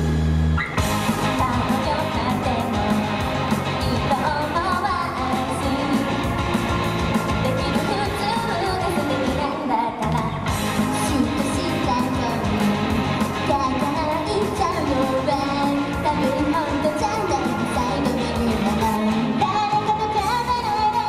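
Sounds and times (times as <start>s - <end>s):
pop backing track with beat: 0.0s - 21.0s
women singing pop song: 1.2s - 21.0s.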